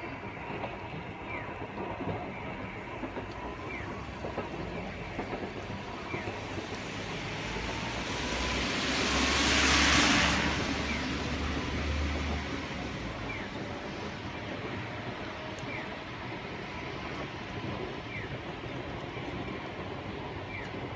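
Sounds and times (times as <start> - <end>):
rain hiss: 0.0 - 20.9
car passing on wet road: 1.8 - 20.9.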